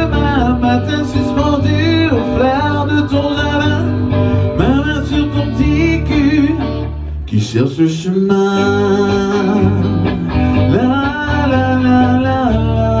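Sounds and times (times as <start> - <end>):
bass line: 0.0 - 13.0
guitar: 0.0 - 13.0
person singing: 0.0 - 13.0.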